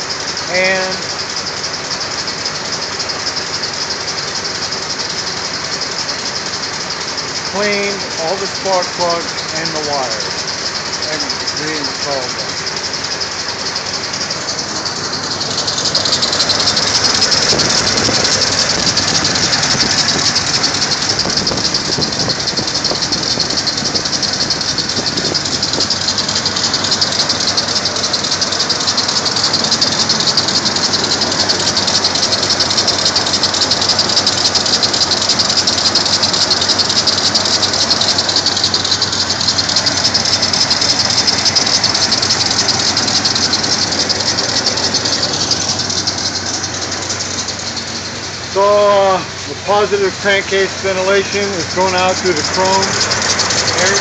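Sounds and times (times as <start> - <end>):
fast engine clatter: 0.0 - 54.0
truck engine idling: 0.0 - 54.0.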